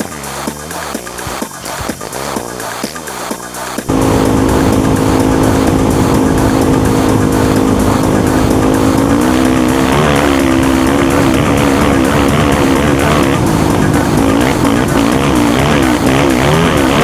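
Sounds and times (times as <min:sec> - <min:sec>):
engine running hard: 0:00.0 - 0:17.0.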